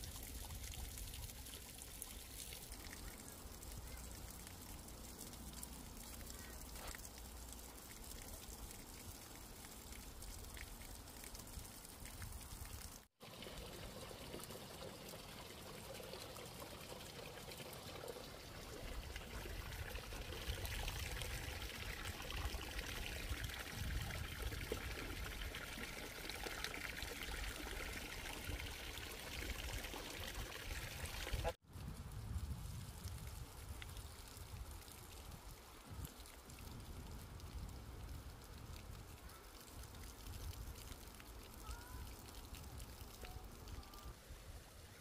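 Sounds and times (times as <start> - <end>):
water pouring from pipe into pond: 0.0 - 44.2.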